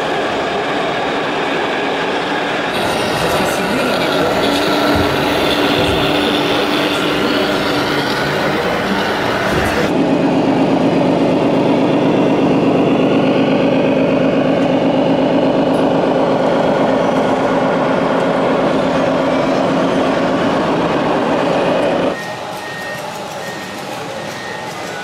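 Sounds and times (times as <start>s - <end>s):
electronic truck engine drone: 0.0s - 25.0s.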